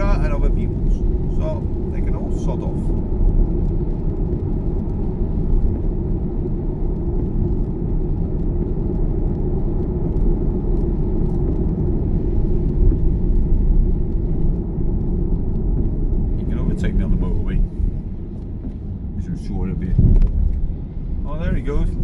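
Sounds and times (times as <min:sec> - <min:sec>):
tyre noise on wet road: 0:00.0 - 0:22.0.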